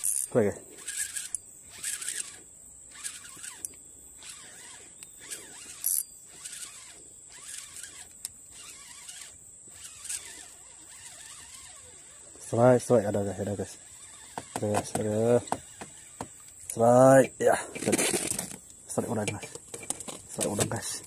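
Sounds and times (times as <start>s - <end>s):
fishing reel whirring: 0.0s - 18.6s.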